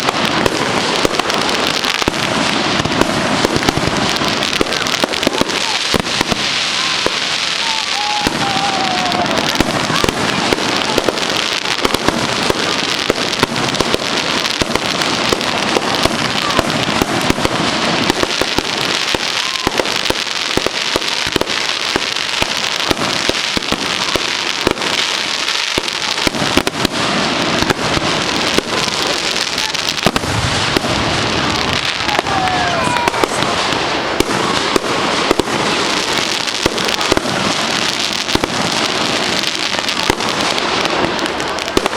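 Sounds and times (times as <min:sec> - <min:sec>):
fireworks crackling and popping: 0:00.0 - 0:41.9
falling firework whistle: 0:02.8 - 0:38.5.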